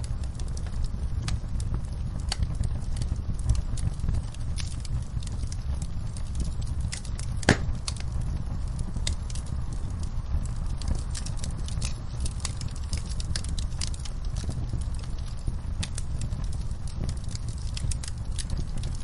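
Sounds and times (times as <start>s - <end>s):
burning wood crackling and popping: 0.0s - 19.0s
rumble of flames: 0.0s - 19.0s.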